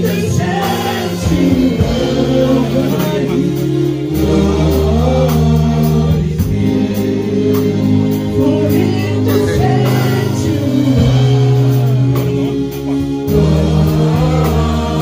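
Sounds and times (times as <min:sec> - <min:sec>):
drum kit: 0:00.0 - 0:15.0
electric bass: 0:00.0 - 0:15.0
singers singing slow song: 0:00.0 - 0:15.0.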